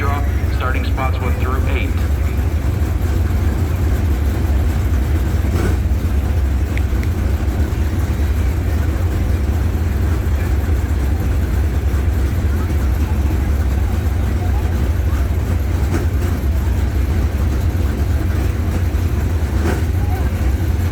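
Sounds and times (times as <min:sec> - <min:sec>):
truck engines rumbling: 0:00.0 - 0:20.9.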